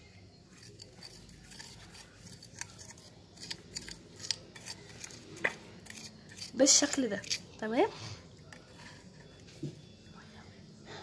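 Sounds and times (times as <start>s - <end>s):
spoon scraping bowl: 0.0s - 9.6s.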